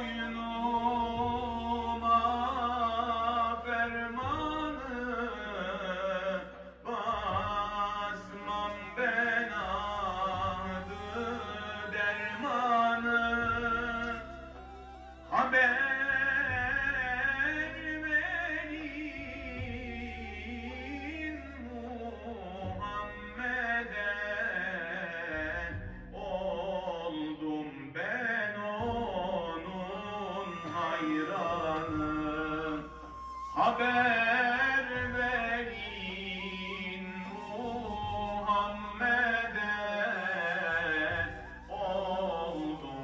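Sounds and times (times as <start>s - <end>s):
man singing a hymn: 0.0s - 43.0s.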